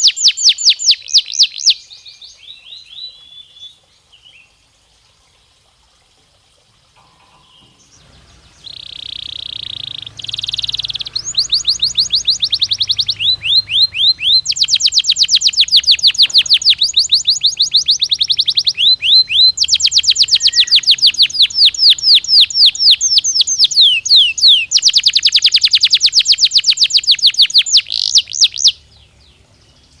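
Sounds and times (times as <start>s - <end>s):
canary singing trills: 0.0s - 4.6s, 7.0s - 30.0s.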